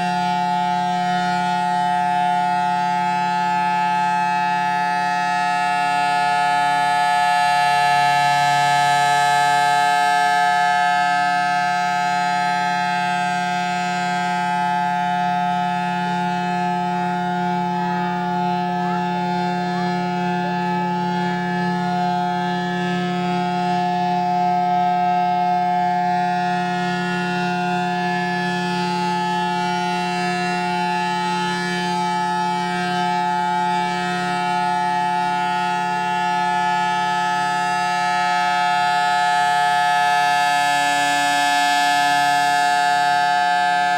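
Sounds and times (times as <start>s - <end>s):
siren steady tone: 0.0s - 43.9s.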